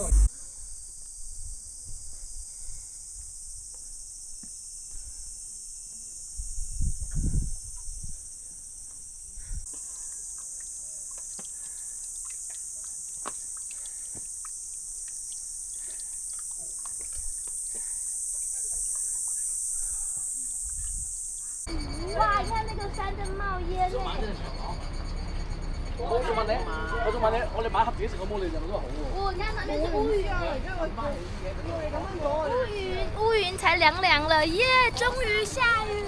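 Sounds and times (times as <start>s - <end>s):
insects buzzing: 0.0s - 30.0s, 33.3s - 36.0s.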